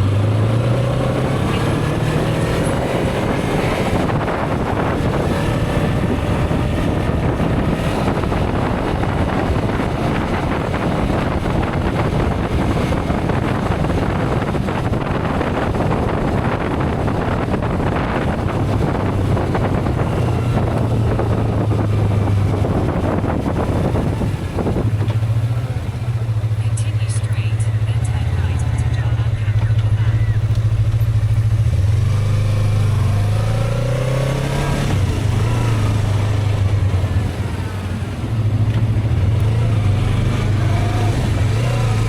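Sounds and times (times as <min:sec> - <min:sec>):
motorcycle engine humming: 0:00.0 - 0:42.0
wind rushing over microphone: 0:00.0 - 0:42.0.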